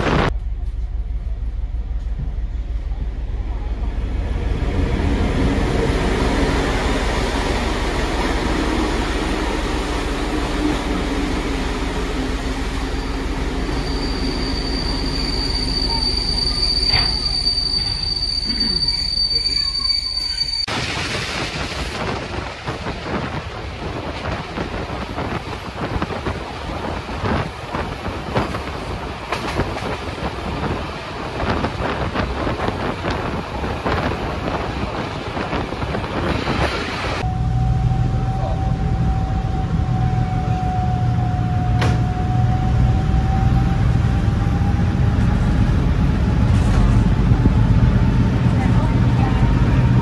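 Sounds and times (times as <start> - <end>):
diesel locomotive engine throbbing: 0.0 - 50.0
train running past: 0.1 - 50.0.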